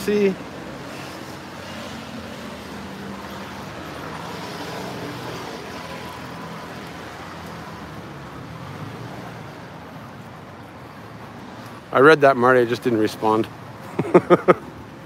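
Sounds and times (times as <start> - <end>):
vehicles passing on street: 0.0 - 15.0.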